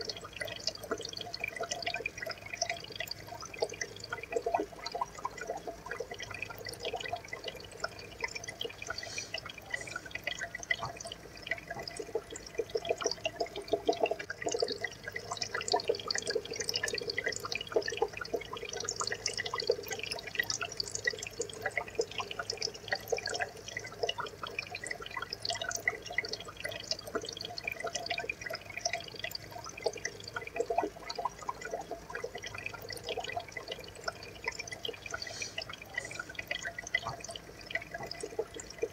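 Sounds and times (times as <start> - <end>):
water trickling and bubbling: 0.0 - 38.9.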